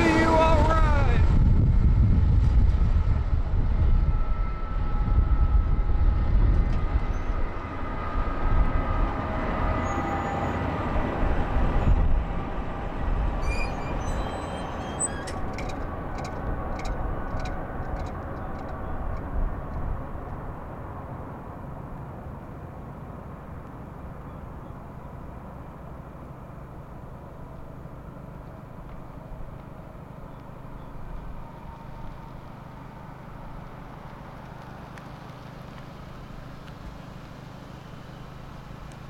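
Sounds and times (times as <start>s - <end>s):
diesel locomotive rumbling: 0.0s - 39.0s
freight train wheels rumbling: 0.0s - 39.0s.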